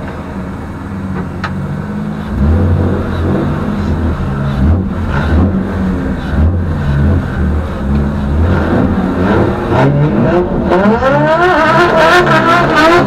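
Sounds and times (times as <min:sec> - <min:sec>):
car engine revving from cabin: 0:01.4 - 0:13.0.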